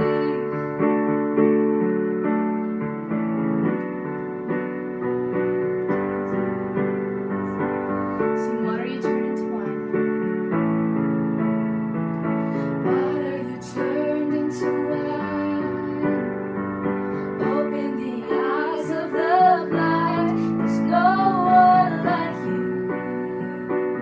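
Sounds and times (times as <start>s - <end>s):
keyboard playing slow piano chords: 0.0s - 24.0s.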